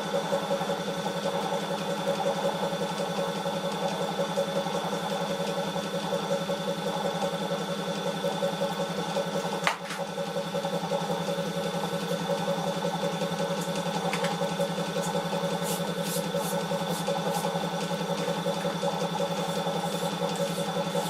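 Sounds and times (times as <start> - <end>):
small electric motor humming: 0.0 - 21.0.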